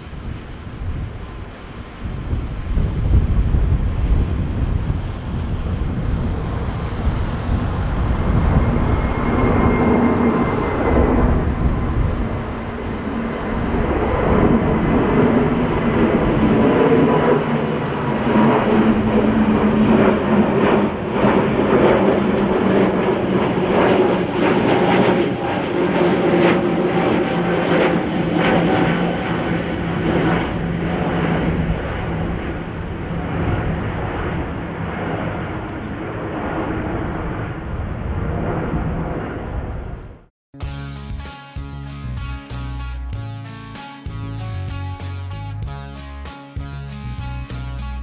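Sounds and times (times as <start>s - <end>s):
jet airliner passing overhead: 0.0s - 40.3s.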